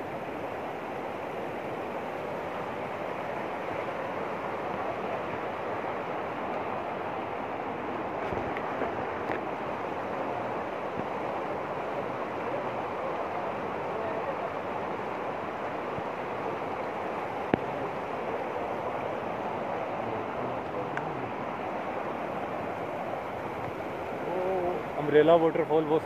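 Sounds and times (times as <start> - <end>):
river rapids rushing over rocks: 0.0 - 26.0.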